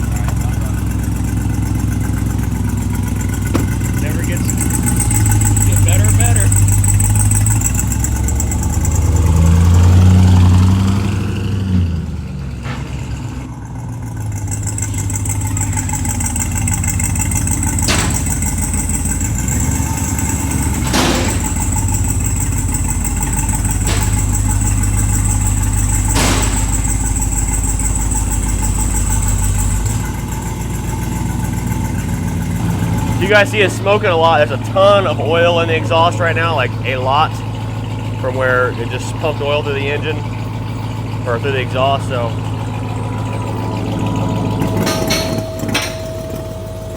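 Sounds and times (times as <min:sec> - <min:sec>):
truck engine revving and idling: 0:00.0 - 0:46.9.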